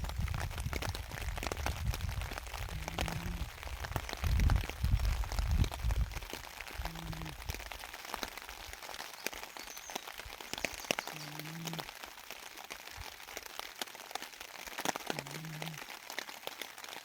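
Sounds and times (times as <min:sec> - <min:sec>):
rain on a tarp: 0:00.0 - 0:17.0.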